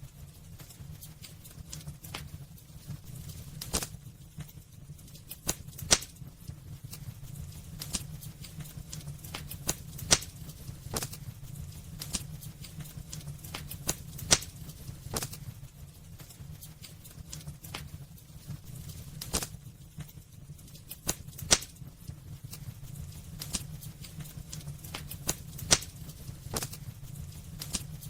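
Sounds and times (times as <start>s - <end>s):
steady low rumble: 0.0s - 28.0s
wood fire crackling and popping: 0.0s - 28.0s.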